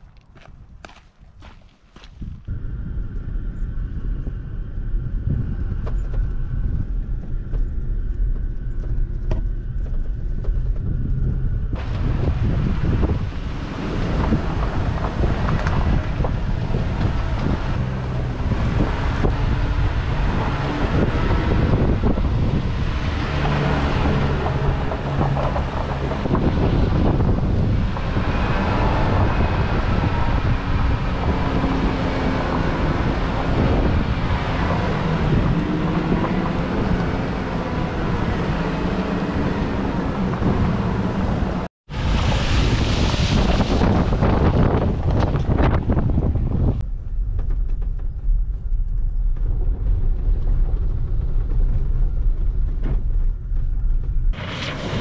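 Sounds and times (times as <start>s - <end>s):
pickup engine and tyre noise: 0.0s - 55.0s
wind buffeting microphone: 0.0s - 55.0s.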